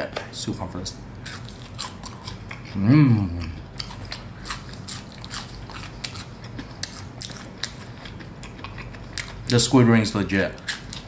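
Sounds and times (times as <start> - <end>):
person chewing crunchy food: 1.2 - 9.6, 10.5 - 11.0.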